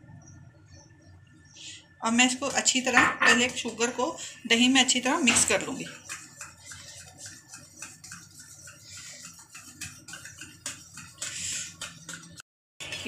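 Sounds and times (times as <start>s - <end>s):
spoon scraping steel bowl: 2.3s - 13.0s.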